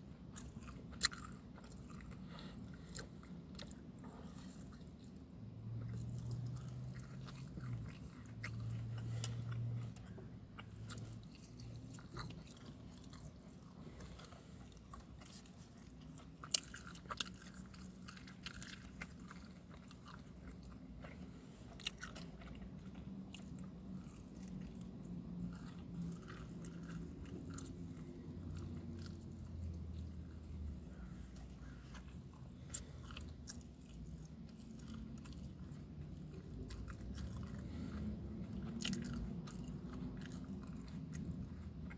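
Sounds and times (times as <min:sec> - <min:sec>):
chewing and biting food: 0:00.0 - 0:41.9.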